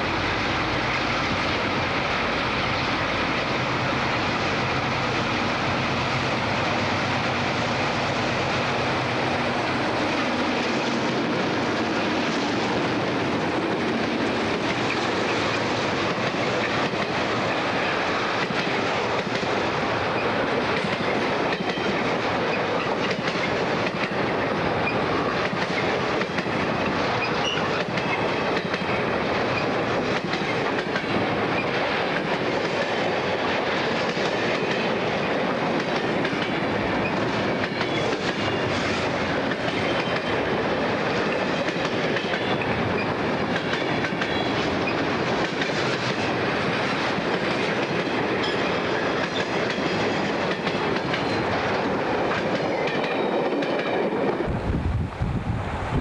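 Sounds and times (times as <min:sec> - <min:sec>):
train wheels clicking over rail joints: 0:00.4 - 0:54.5.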